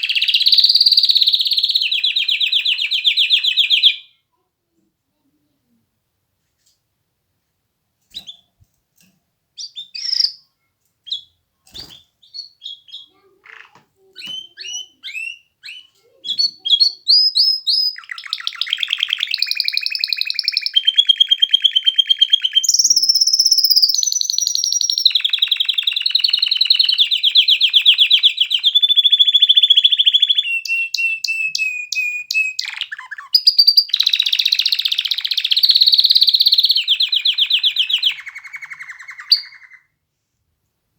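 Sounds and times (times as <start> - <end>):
canary singing trills: 0.0 - 4.2, 9.6 - 39.9.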